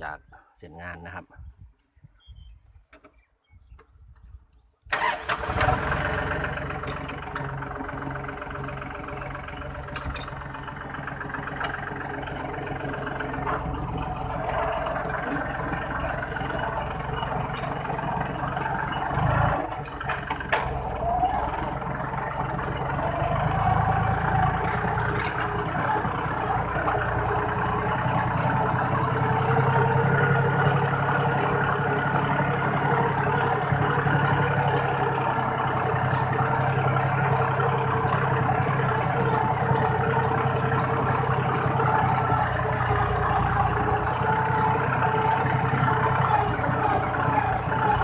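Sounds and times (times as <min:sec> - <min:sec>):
tractor diesel engine running: 0:04.9 - 0:48.0.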